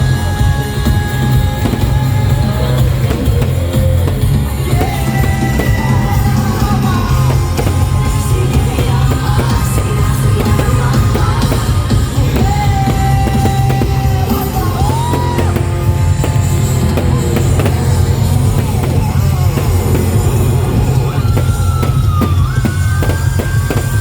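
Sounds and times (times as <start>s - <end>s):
person singing long notes: 0.0s - 23.8s
loud music with heavy bass: 0.0s - 24.0s.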